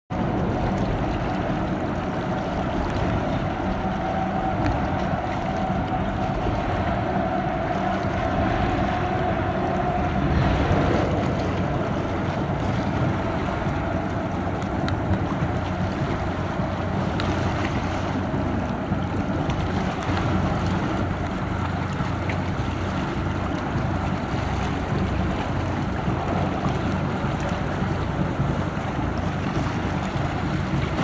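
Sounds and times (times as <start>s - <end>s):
diesel engine humming: 0.1s - 31.0s
water: 0.1s - 31.0s
wind on microphone: 0.1s - 31.0s.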